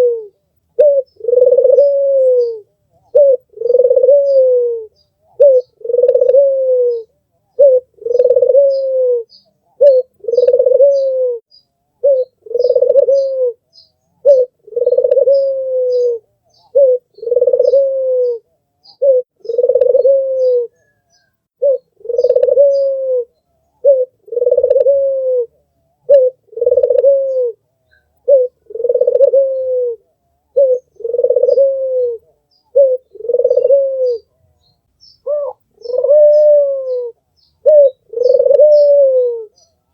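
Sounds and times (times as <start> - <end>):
small birds chirping: 0.0 - 25.0, 25.6 - 39.9
dove cooing: 0.0 - 39.7.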